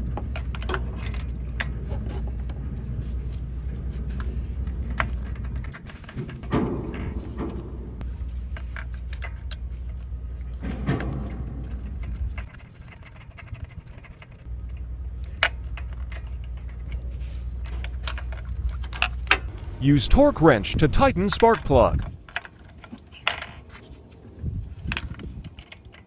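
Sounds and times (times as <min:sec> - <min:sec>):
low hum: 0:00.0 - 0:23.5.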